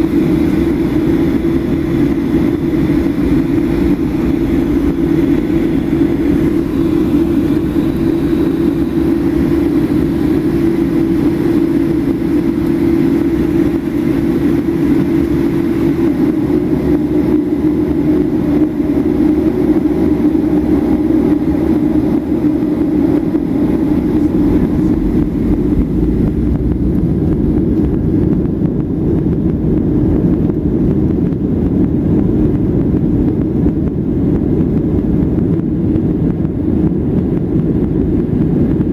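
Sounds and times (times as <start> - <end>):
jet engine hum: 0.0 - 38.9
low cabin rumble: 0.0 - 38.9.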